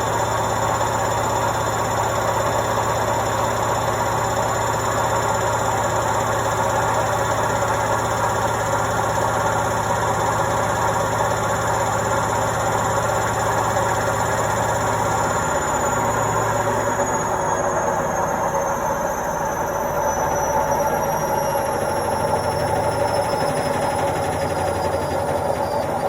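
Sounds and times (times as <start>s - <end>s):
washing machine running: 0.0s - 26.0s.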